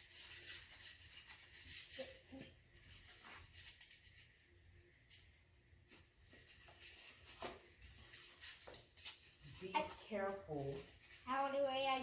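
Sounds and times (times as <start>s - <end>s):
plastic rustling: 0.0s - 12.0s.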